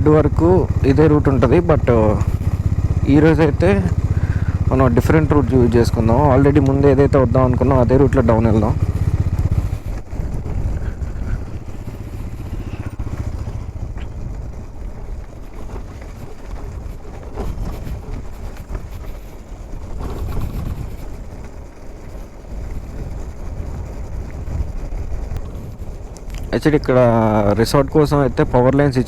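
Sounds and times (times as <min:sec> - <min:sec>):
motorcycle engine and road rumble: 0:00.0 - 0:29.0
wind noise: 0:00.0 - 0:29.0.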